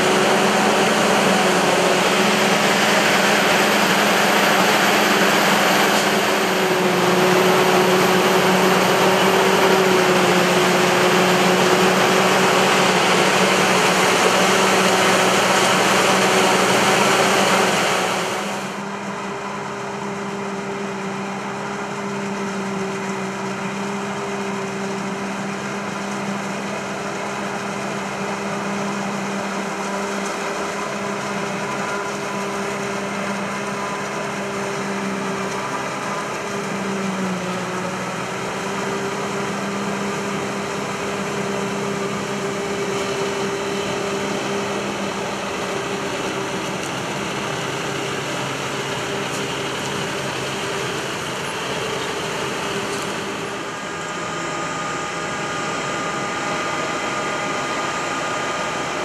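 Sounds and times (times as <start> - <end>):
harvester machine drone: 0.0 - 59.0.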